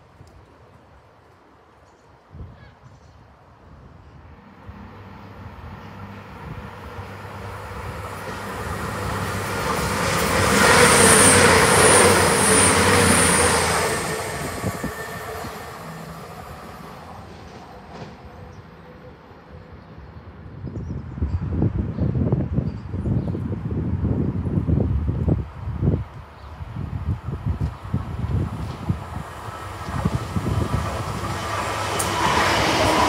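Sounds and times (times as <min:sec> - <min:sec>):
diesel train passing at speed: 0:03.6 - 0:33.0.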